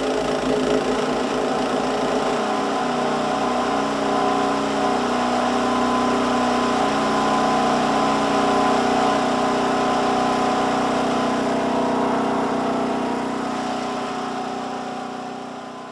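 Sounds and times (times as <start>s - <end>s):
snow thrower engine running: 0.0s - 15.9s.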